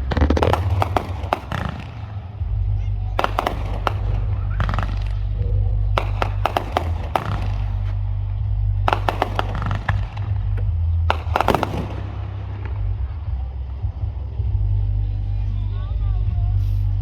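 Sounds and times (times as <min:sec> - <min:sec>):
fireworks bangs and crackles: 0:00.0 - 0:14.7
steady low rumble: 0:00.0 - 0:17.0.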